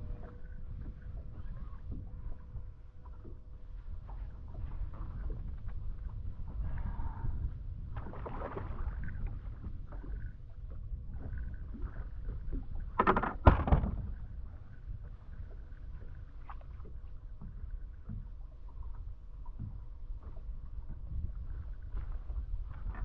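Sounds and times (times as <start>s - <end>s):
boat engine low rumble: 0.0s - 23.0s.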